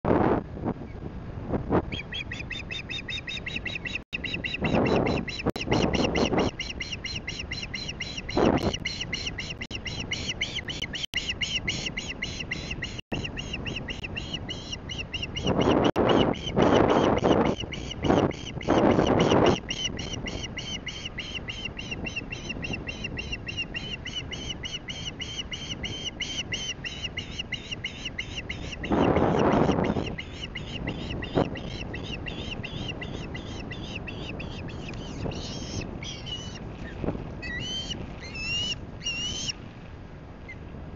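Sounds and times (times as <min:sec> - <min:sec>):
wind buffeting microphone: 0:00.0 - 0:40.9
bird high chirps: 0:01.9 - 0:36.6, 0:37.4 - 0:39.5.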